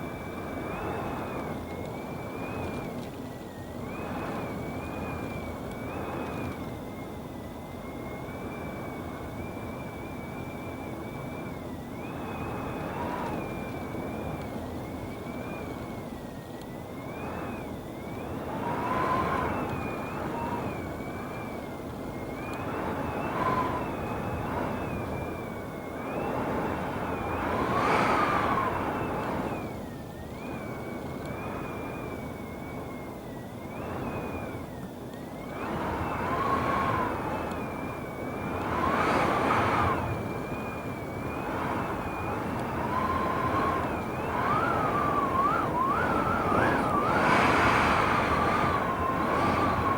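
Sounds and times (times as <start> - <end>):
low wind howl: 0.0 - 49.9
strong wind rushing roar: 0.0 - 49.9
thin wavering wind whistle: 0.0 - 49.9.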